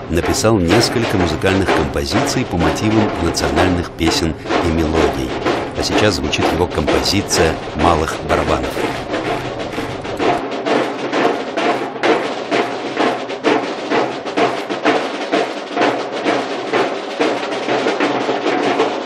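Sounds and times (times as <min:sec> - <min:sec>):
marching snare drums playing: 0:00.0 - 0:19.0.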